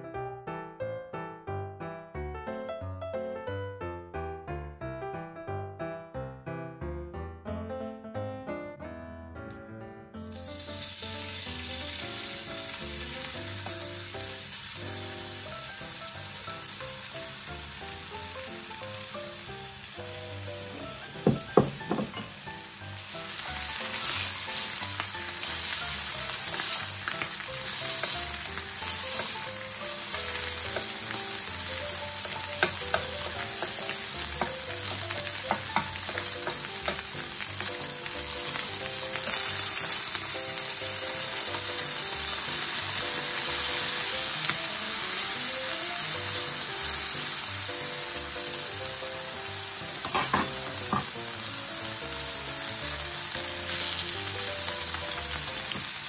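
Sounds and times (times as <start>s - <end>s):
meat sizzling on a griddle: 10.2s - 56.0s.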